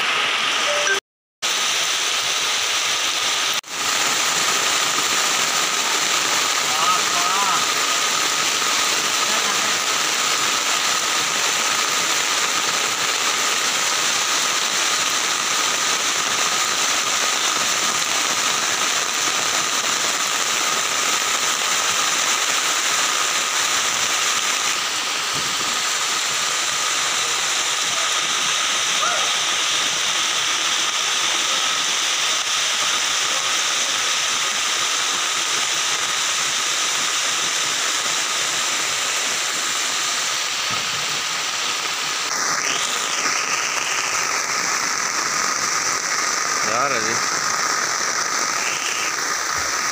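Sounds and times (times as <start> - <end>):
flooded stream rushing: 0.0 - 1.0, 1.6 - 49.9
heavy rain on foliage: 0.0 - 49.9.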